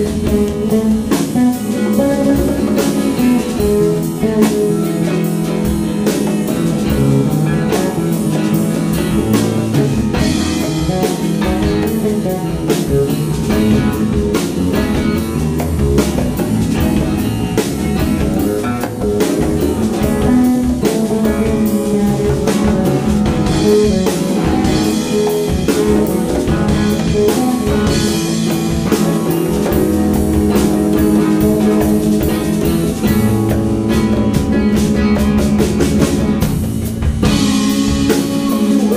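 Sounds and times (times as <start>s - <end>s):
congas: 0.0s - 38.9s
drum kit: 0.0s - 38.9s
electric bass: 0.0s - 38.9s
electric guitar: 0.0s - 38.9s.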